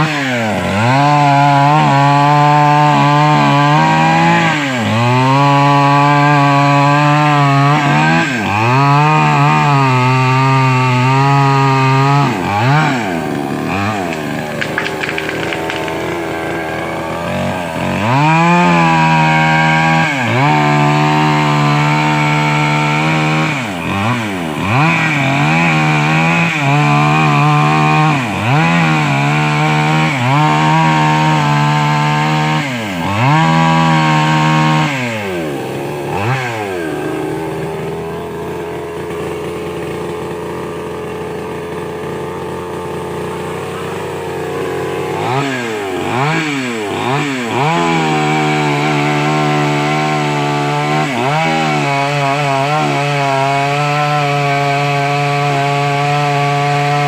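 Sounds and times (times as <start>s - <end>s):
chainsaw revving and cutting: 0.0s - 57.0s.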